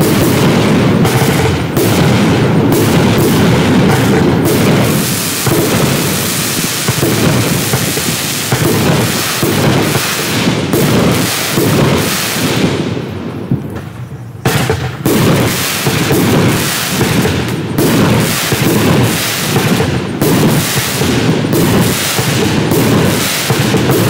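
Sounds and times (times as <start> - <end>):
firework crackle: 0.0 - 24.0
firework shells bursting: 0.0 - 24.0.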